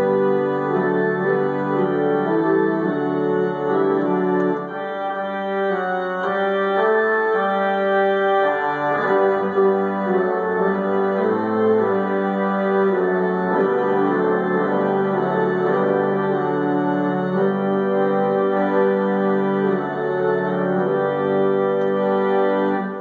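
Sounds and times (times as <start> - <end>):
pipe organ chords: 0.0 - 23.0.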